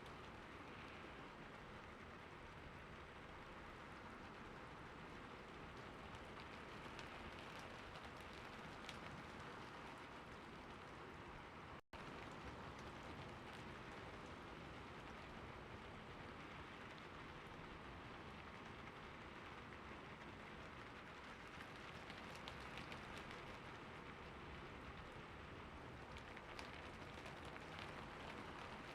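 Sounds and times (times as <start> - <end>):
gentle rain falling: 0.0 - 28.9.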